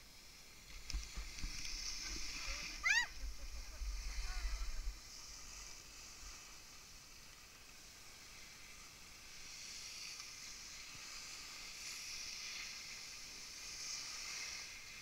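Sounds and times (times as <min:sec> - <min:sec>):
skis sliding over snow: 0:00.0 - 0:15.0.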